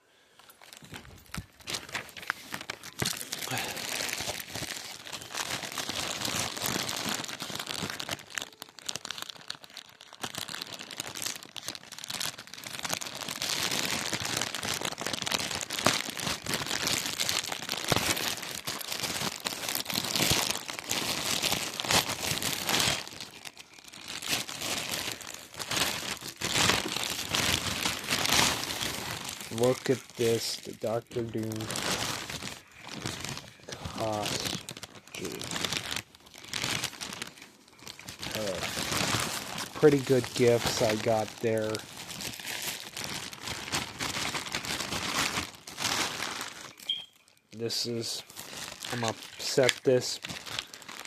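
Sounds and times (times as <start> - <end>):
packaging crinkling and tearing: 0.4 - 51.0.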